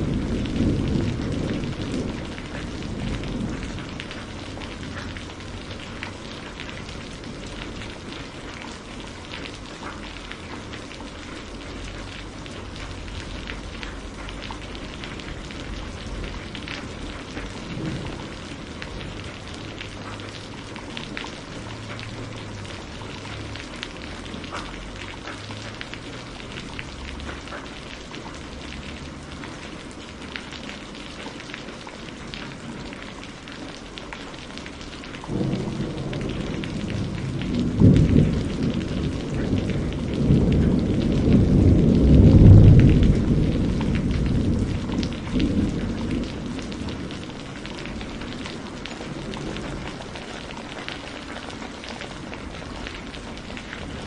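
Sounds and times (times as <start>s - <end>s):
thunder rumbling: 0.0s - 30.2s, 35.0s - 54.0s
steady rain falling: 0.0s - 54.0s.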